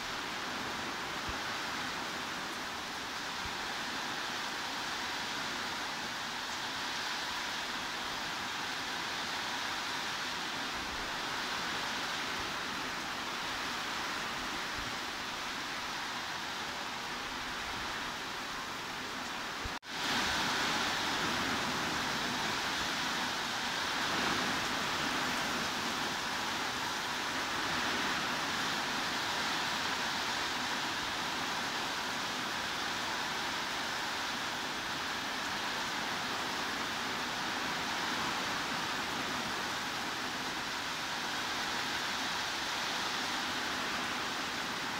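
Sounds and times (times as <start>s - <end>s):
heavy rain hiss: 0.0s - 44.9s.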